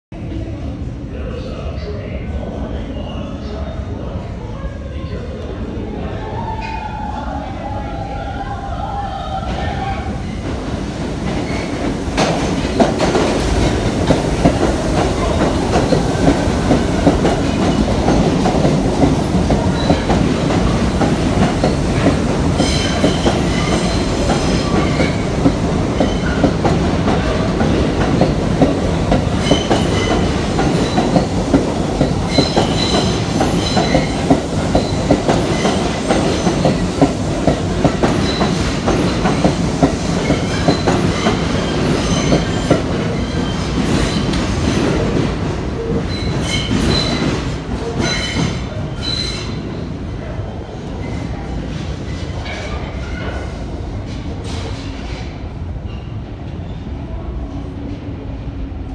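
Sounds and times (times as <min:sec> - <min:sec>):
subway train rumble: 0:00.1 - 0:58.9.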